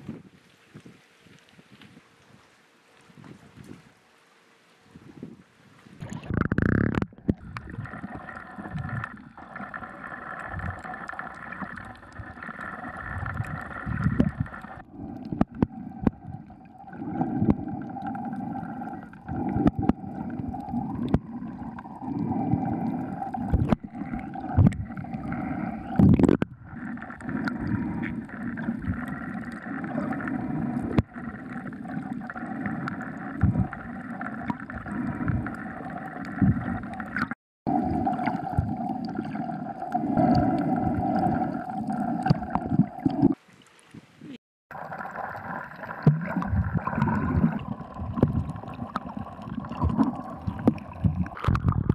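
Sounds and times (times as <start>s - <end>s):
water sloshing and gurgling: 0.0s - 51.9s.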